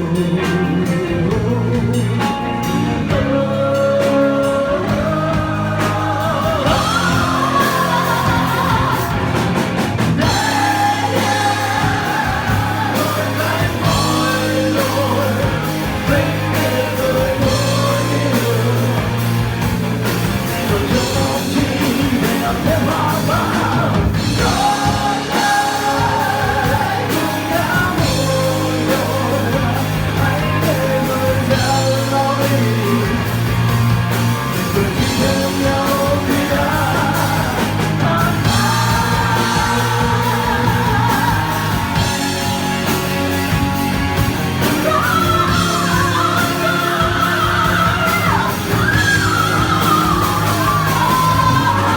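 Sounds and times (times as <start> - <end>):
guitar: 0.0 - 51.9
rock song with lead vocal: 0.0 - 51.9.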